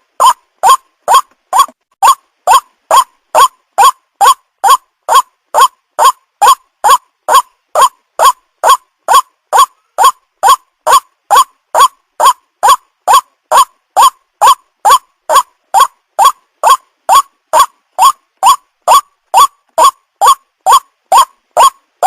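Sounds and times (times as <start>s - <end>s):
bird calling: 0.2s - 21.8s.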